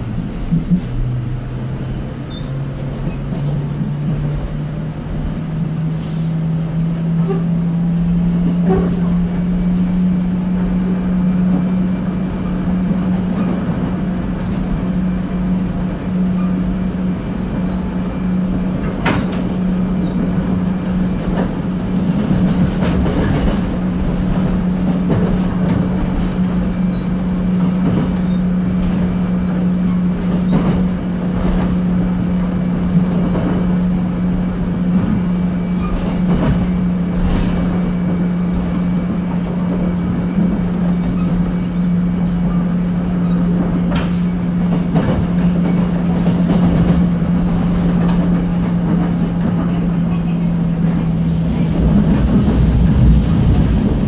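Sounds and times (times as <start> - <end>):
low motor hum: 0.0 - 54.0
train wheels rumbling on rails: 0.0 - 54.0.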